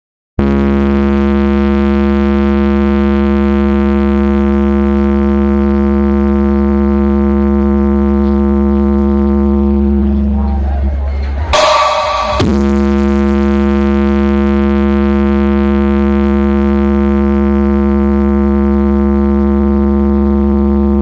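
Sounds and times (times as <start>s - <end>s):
buzzy bass drone: 0.4s - 21.0s.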